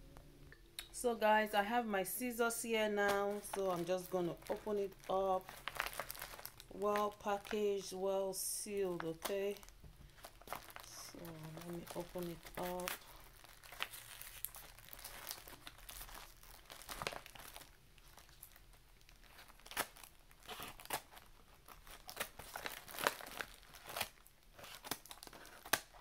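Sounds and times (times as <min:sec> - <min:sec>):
envelope crinkling and rustling: 0:02.6 - 0:26.0.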